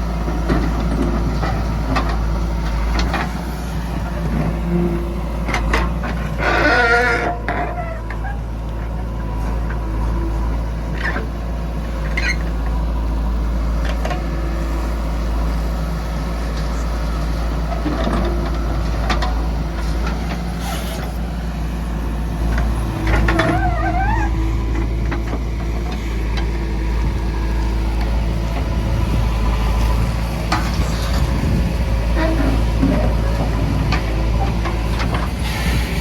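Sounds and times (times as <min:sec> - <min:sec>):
heavy diesel engines running: 0:00.0 - 0:36.0.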